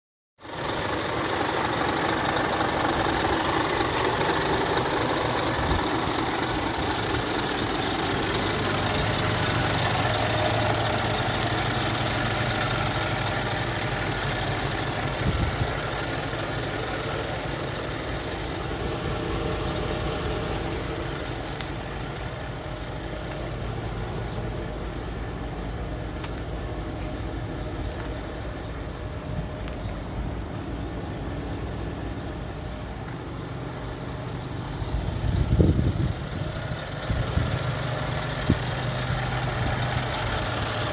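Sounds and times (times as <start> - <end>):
diesel engine idling: 0.4 - 40.9.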